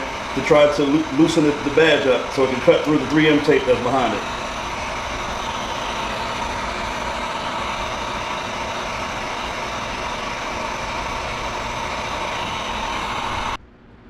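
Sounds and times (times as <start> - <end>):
heat gun blowing: 0.0 - 13.6.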